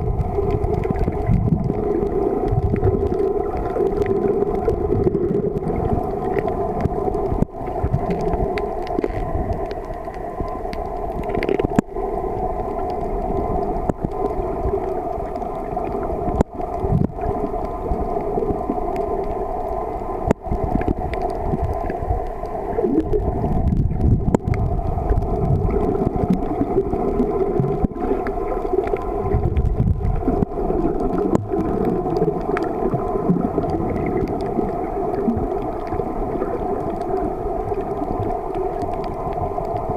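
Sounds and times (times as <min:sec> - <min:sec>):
low watery rumble: 0:00.0 - 0:39.9
steady underwater drone: 0:00.0 - 0:39.9.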